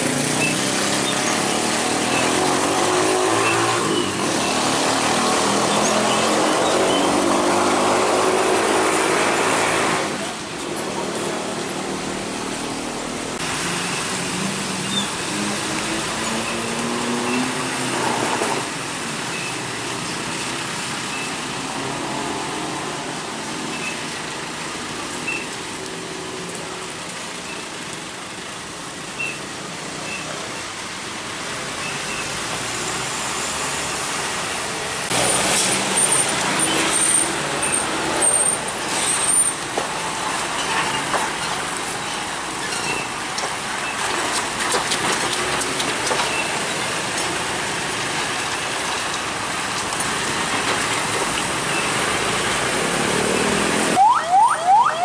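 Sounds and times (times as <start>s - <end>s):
heavy trucks passing: 0.0s - 55.0s
road traffic: 0.0s - 55.0s.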